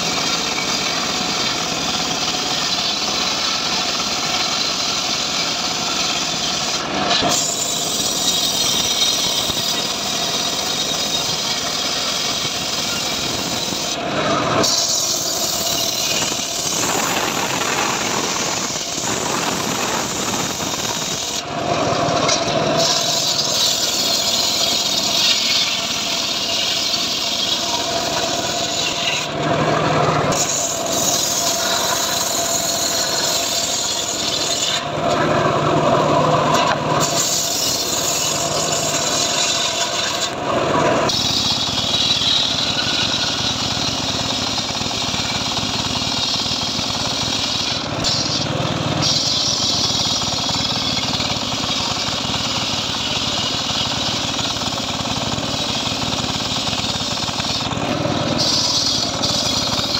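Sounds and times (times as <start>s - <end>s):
table saw ripping timber: 0.0s - 59.9s.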